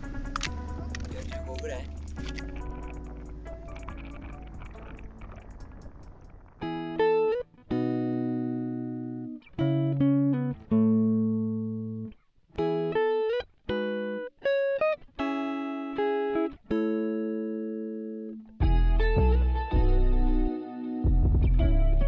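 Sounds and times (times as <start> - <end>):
solo guitar playing: 0.0 - 22.0.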